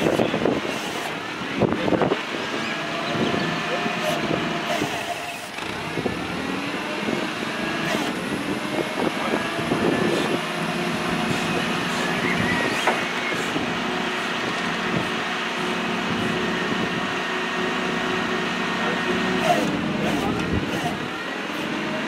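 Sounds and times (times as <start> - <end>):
forklift engine idling: 0.0 - 22.0.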